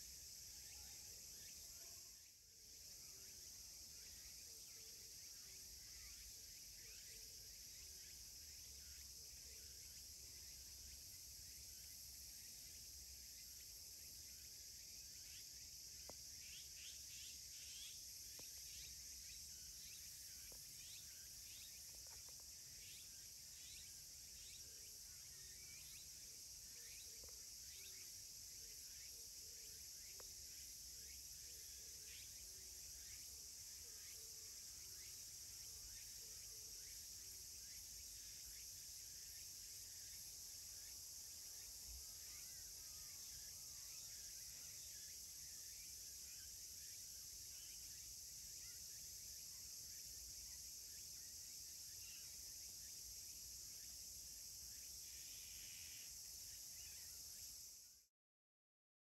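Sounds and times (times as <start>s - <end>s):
high-pitched insect chorus: 0.0s - 58.1s.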